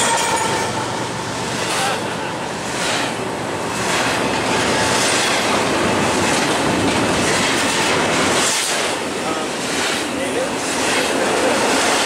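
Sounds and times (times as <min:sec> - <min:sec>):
train wheels rumbling and rattling: 0:00.0 - 0:12.0.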